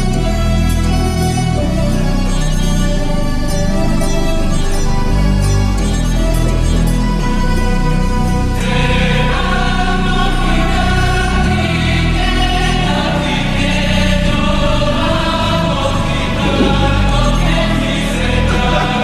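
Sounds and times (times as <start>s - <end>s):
slow choir-like music with bass: 0.0s - 19.0s.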